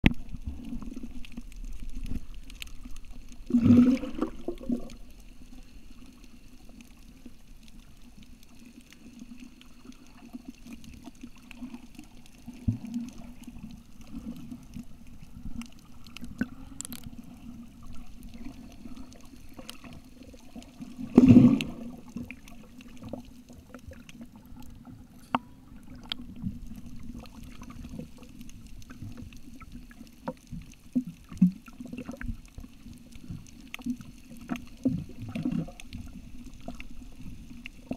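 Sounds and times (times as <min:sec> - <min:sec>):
muffled underwater rumble: 0:00.0 - 0:37.9
small clicks and crackles: 0:00.0 - 0:37.9.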